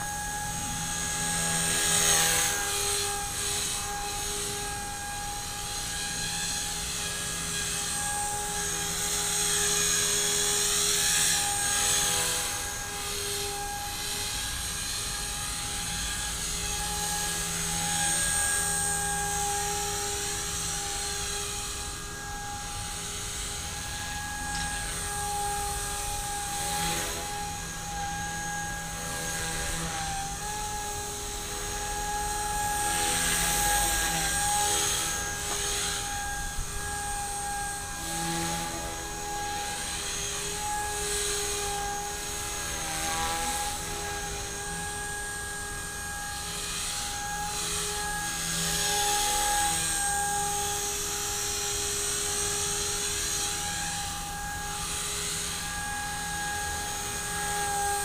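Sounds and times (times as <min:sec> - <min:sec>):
rc helicopter whine and rotor buzz: 0:00.0 - 0:58.0.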